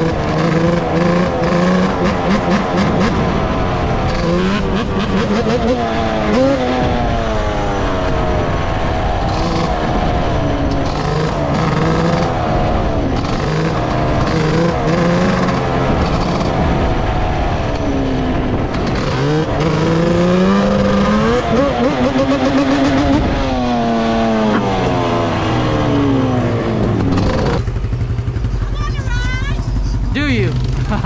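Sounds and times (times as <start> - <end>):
vehicle engines revving: 0.0 - 31.0.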